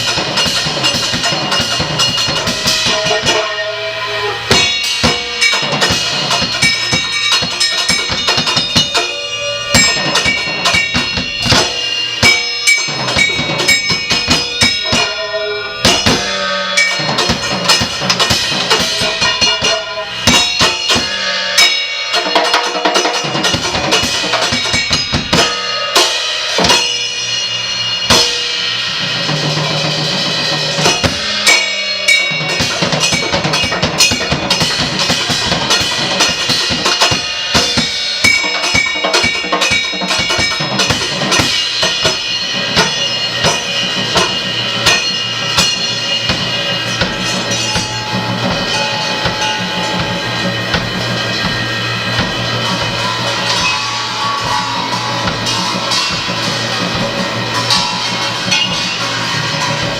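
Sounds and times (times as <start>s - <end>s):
drum kit improvisation: 0.0s - 59.9s.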